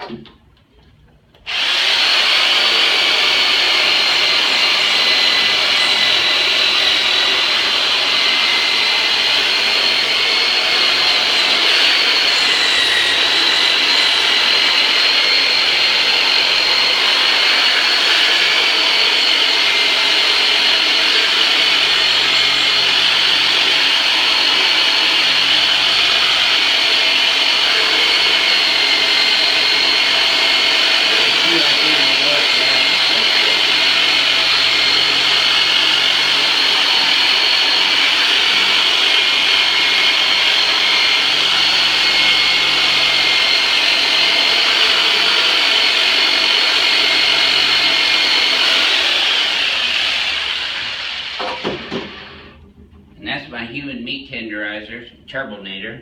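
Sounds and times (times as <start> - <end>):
massager motor whine and buzz: 1.4 - 52.8.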